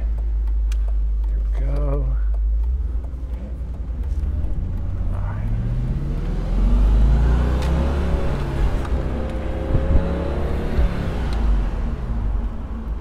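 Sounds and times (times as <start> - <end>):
car engine at low revs: 0.0 - 13.0
deep rumble: 0.0 - 13.0.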